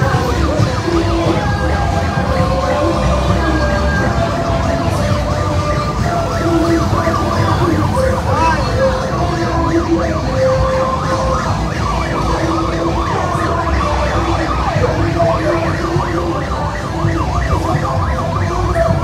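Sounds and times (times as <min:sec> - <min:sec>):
sirens yelping: 0:00.0 - 0:19.0.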